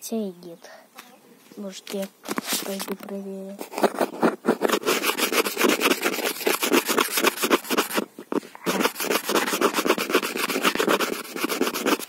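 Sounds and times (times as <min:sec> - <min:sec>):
scratching on a phone microphone: 0:01.8 - 0:12.0.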